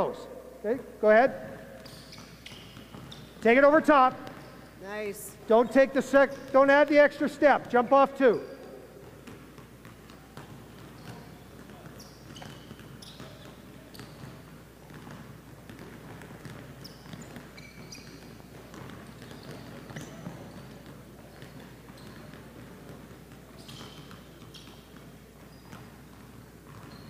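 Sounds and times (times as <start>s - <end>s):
sneakers squeaking: 0.0s - 27.0s
basketballs bouncing on hardwood: 1.4s - 4.7s, 5.5s - 27.0s.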